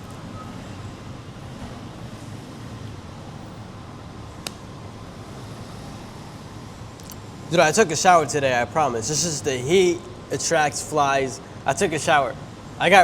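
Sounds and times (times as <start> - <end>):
city background rumble: 0.0 - 13.0.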